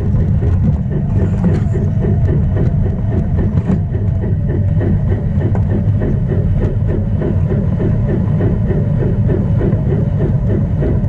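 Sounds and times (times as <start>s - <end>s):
toy train motor rumble: 0.0s - 11.0s.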